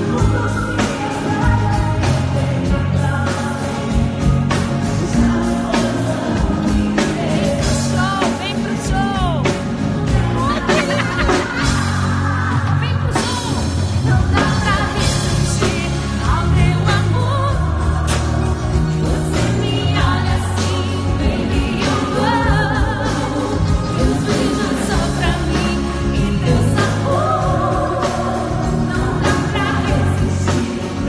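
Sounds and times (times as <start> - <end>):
pop music with singing: 0.0 - 31.0.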